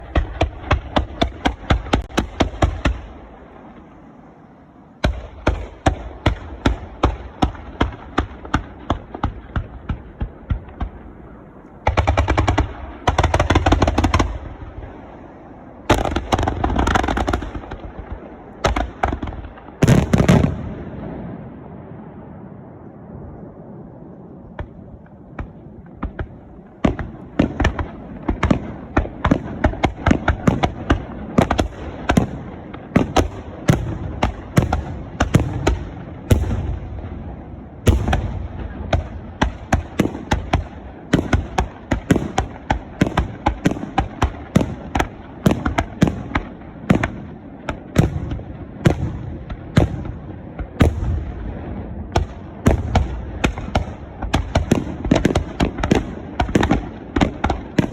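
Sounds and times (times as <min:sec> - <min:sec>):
fireworks bursting: 0:00.0 - 0:23.5, 0:24.4 - 0:57.9.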